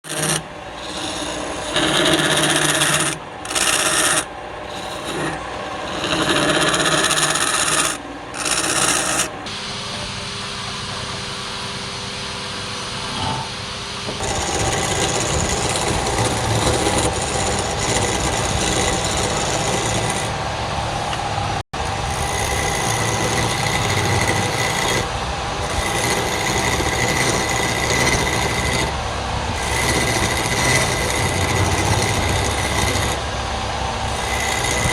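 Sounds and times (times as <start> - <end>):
tool rasping against wood: 0.0 - 9.4, 14.2 - 33.3, 34.1 - 34.9
wood lathe humming: 0.0 - 9.5, 14.2 - 34.9.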